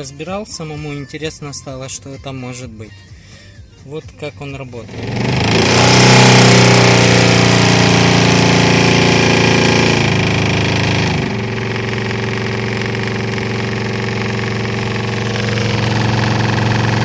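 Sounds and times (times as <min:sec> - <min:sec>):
blower fan droning hum: 0:00.0 - 0:17.0.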